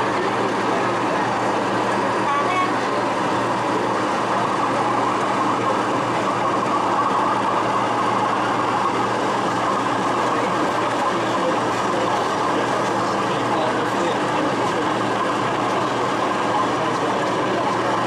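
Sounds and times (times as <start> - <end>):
locomotive motor: 0.0 - 18.0.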